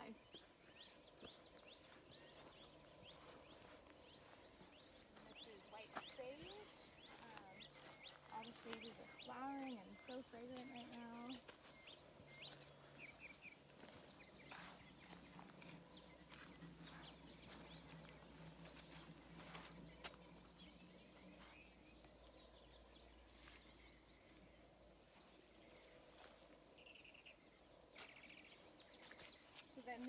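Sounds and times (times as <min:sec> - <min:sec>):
bird chirps: 0:00.0 - 0:30.0.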